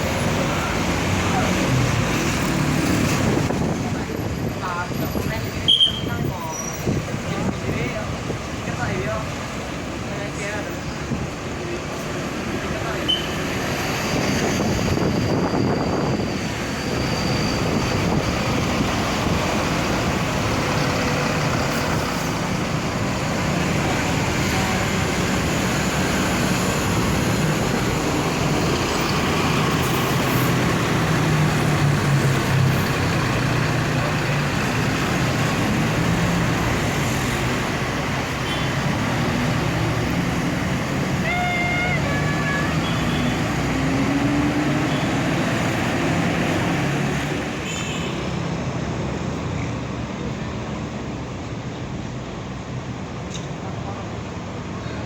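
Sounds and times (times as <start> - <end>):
diesel bus engine rumble: 0.0 - 55.0.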